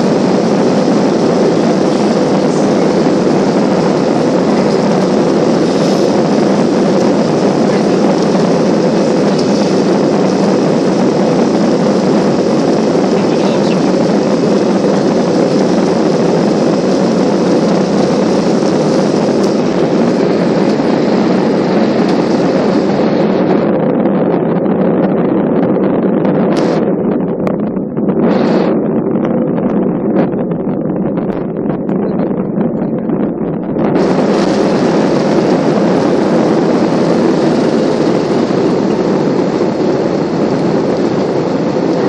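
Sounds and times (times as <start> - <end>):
jet engines roaring in cabin: 0.0 - 42.0.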